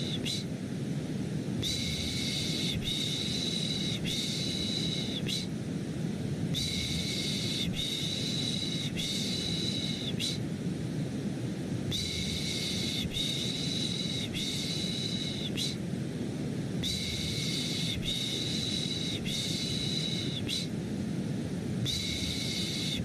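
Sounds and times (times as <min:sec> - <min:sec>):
white noise hiss: 0:00.0 - 0:23.0.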